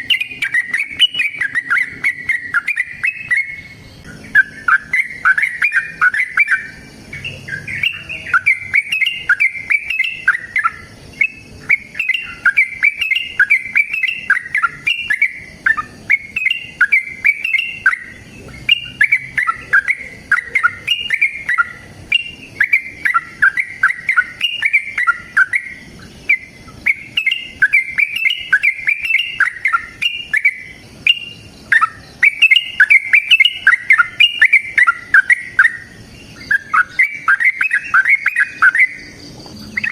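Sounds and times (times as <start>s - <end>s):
bird singing bubbling chatter: 0.0s - 39.9s.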